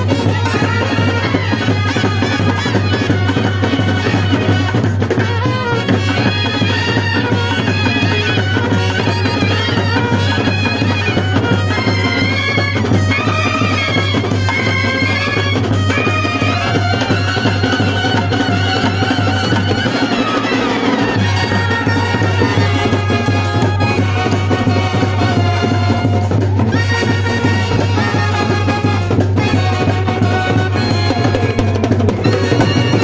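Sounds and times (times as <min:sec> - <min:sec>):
brass band playing a film song: 0:00.0 - 0:33.0
snare and tom drums: 0:00.0 - 0:33.0.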